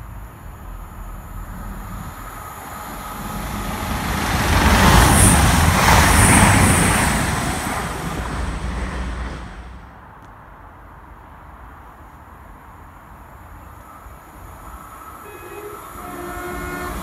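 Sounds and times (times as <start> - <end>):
diesel train passing: 0.0 - 17.0.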